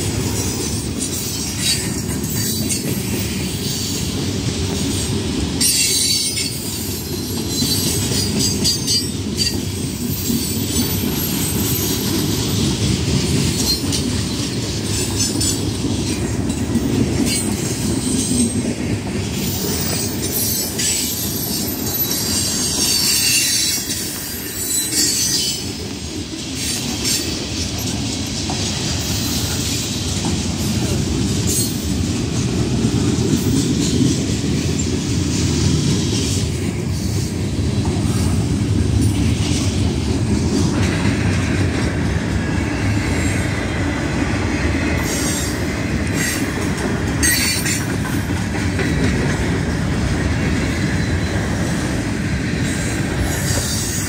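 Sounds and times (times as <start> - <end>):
rail clacks: 0.0 - 54.0
train wheels rumbling on rails: 0.0 - 54.0.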